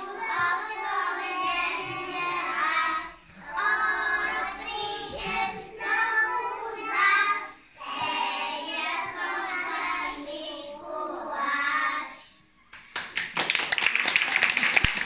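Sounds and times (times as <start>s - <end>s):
children singing in unison: 0.0s - 12.4s.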